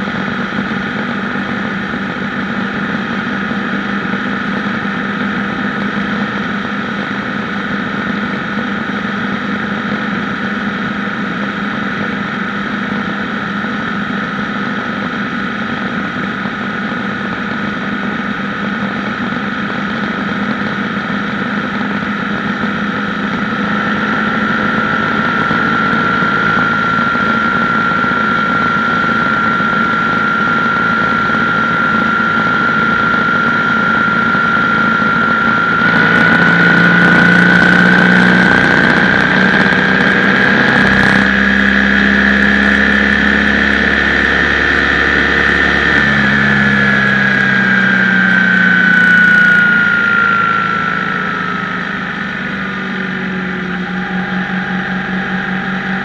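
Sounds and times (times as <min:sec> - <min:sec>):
high whine: 0:00.0 - 0:56.0
motorcycle engine running: 0:00.0 - 0:56.0.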